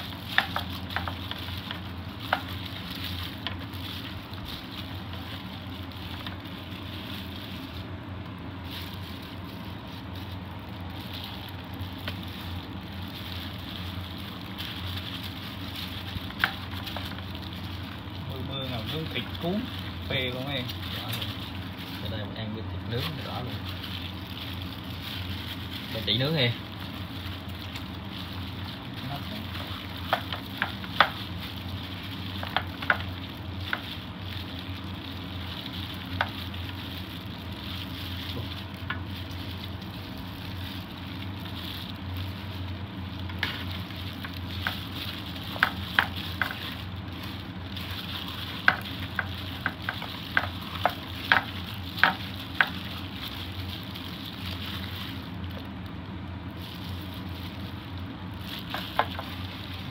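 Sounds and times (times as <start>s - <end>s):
wet crackly stirring rustle: 0.0s - 59.9s.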